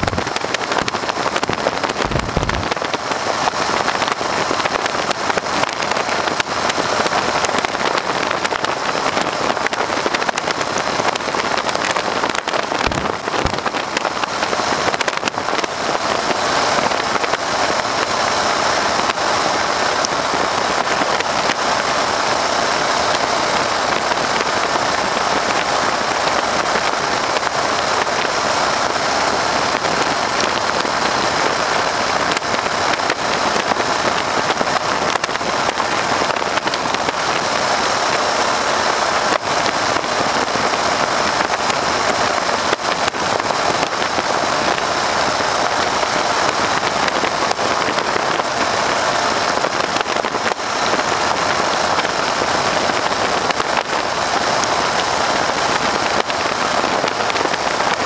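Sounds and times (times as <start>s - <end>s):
radial engine drone: 0.0s - 58.0s
rushing slipstream wind: 0.0s - 58.0s.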